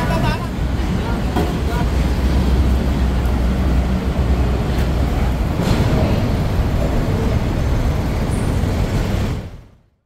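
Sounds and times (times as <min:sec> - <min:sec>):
vehicle engines and traffic rumble: 0:00.0 - 0:10.0.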